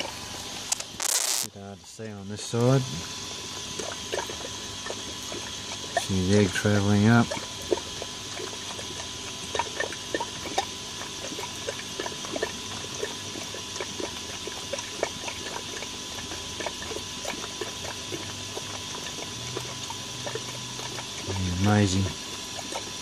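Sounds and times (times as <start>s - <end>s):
pond filter bubbling: 0.0s - 23.0s.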